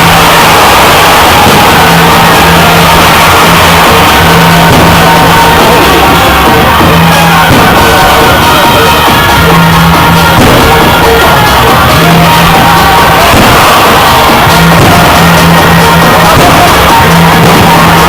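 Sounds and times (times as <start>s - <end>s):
loud distorted music: 0.0s - 18.0s.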